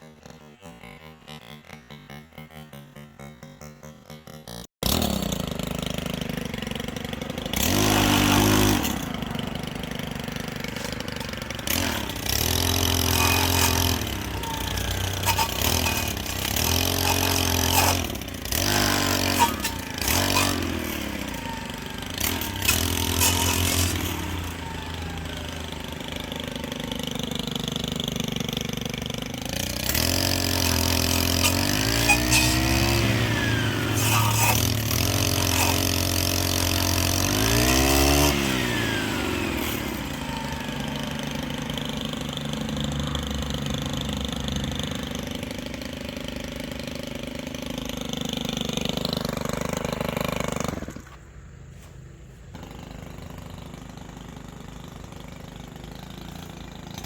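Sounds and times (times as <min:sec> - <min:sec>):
brushcutter engine revving: 0:00.0 - 0:51.3, 0:52.5 - 0:57.0.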